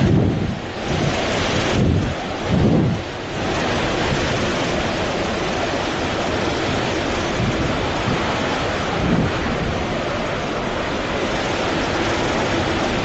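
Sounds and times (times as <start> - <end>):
strong wind blowing: 0.0 - 13.0
wind buffeting microphone: 0.0 - 13.0.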